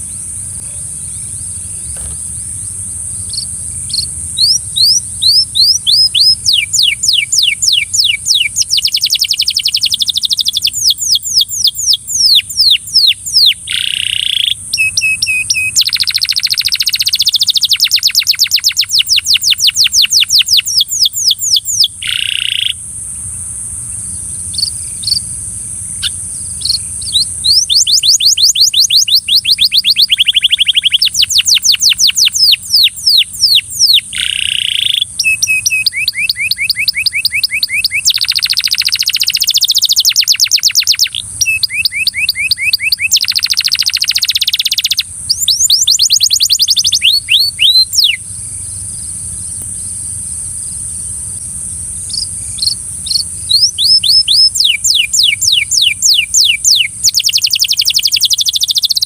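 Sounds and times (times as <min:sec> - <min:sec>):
canary singing trills: 0:00.0 - 0:22.8, 0:23.8 - 0:59.0
steady high hiss: 0:00.0 - 0:59.0.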